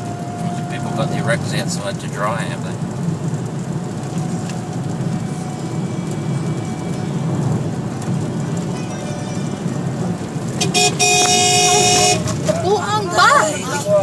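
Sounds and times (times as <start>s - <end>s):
road noise: 0.0s - 14.0s
vehicle engine rumble: 0.0s - 14.0s.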